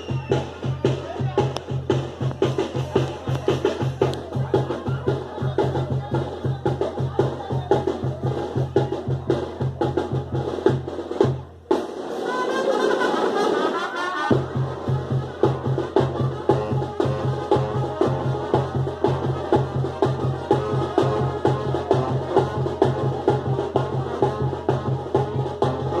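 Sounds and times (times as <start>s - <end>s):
steady drum beat: 0.0s - 26.0s
traditional dance music: 0.0s - 26.0s.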